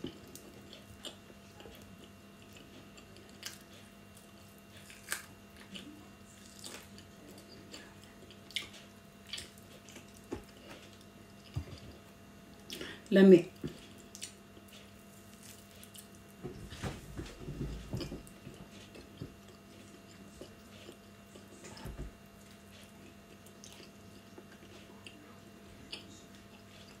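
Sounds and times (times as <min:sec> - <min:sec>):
person chewing and biting food: 0:00.0 - 0:12.9, 0:13.7 - 0:16.2, 0:17.7 - 0:21.8, 0:22.4 - 0:27.0.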